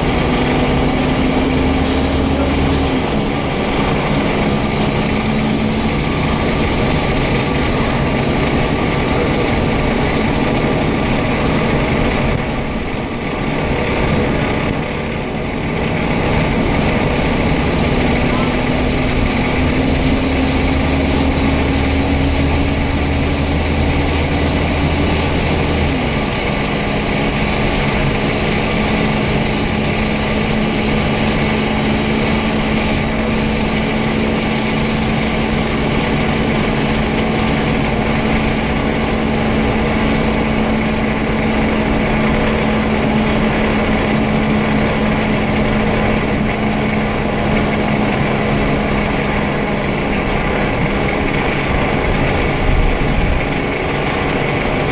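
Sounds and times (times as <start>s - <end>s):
bus engine idling: 0.0s - 54.9s
steady whine: 0.0s - 54.9s.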